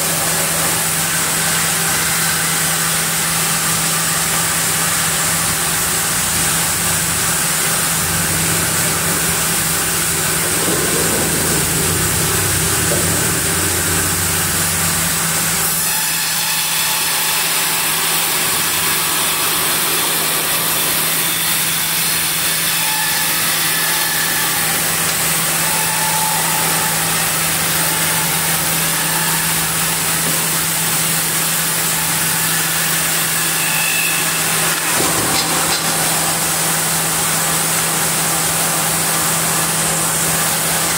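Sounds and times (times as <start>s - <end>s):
band sawmill cutting log: 0.0s - 40.9s.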